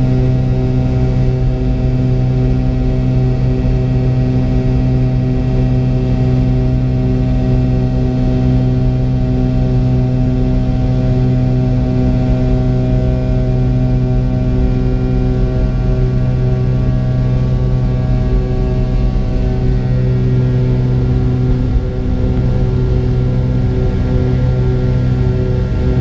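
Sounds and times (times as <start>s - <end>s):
jet engines droning with whine: 0.0s - 26.0s.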